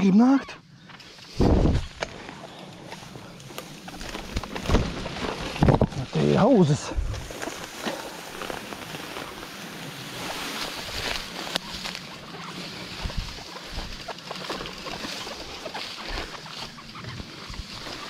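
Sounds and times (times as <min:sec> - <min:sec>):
vegetation rustling and crackling: 0:00.0 - 0:18.0.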